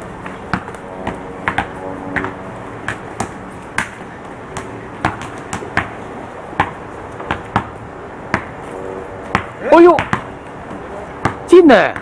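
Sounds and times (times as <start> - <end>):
basketball bouncing on hard court: 0.2 - 6.0, 6.6 - 8.6, 9.2 - 10.3, 11.2 - 12.0.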